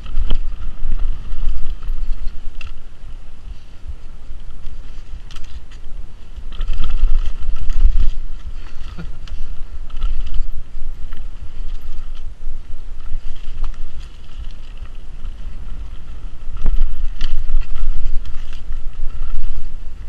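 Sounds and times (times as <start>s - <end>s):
mountain bike rattle: 0.0s - 20.0s
wind buffeting microphone: 0.0s - 20.0s.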